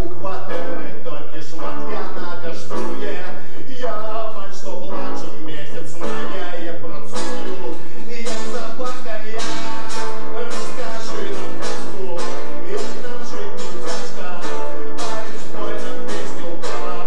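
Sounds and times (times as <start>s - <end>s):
guitar strumming: 0.0s - 17.0s.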